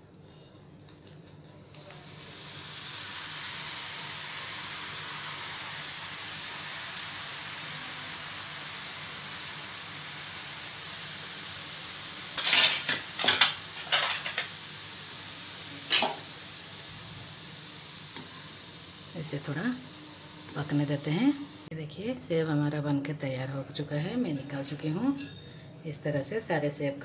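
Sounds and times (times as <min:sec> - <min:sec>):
dough sizzling in hot oil: 0:00.0 - 0:21.7.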